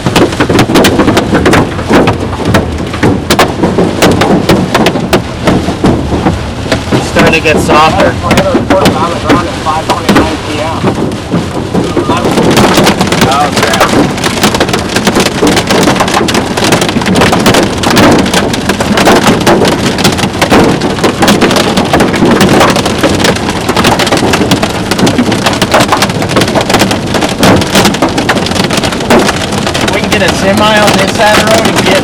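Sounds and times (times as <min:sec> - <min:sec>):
hail and rain hammering on a vehicle: 0:00.0 - 0:32.0.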